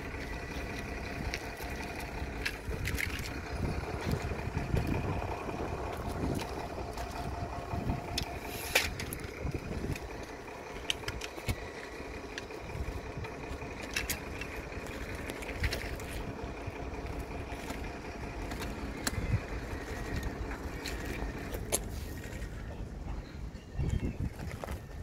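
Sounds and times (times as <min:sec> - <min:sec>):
engine hum: 0:00.0 - 0:25.0
faint steady tones: 0:00.0 - 0:25.0.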